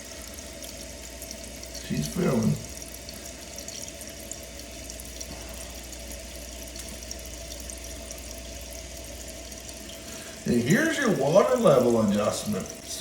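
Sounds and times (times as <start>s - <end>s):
toilet tank refilling: 0.0s - 13.0s.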